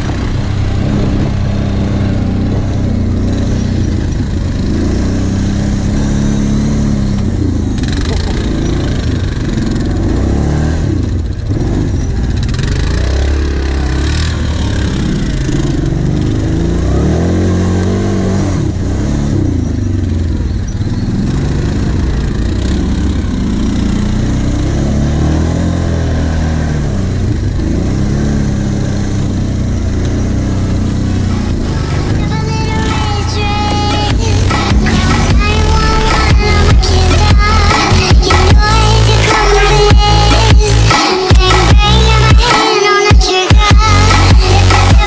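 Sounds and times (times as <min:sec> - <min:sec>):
quad bike engine revving: 0:00.0 - 0:45.0.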